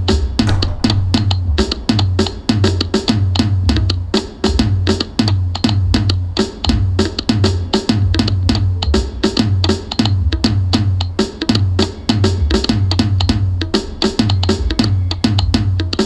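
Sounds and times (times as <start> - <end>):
music with drum beat and bass: 0.0 - 16.0.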